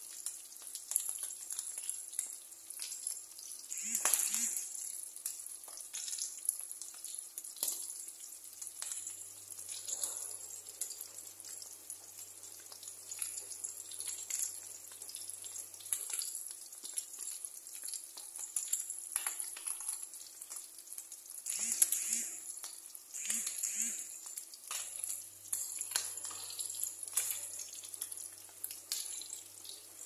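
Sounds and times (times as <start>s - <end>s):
fish sizzling in hot oil: 0.0s - 30.0s
oil popping and crackling: 0.0s - 30.0s.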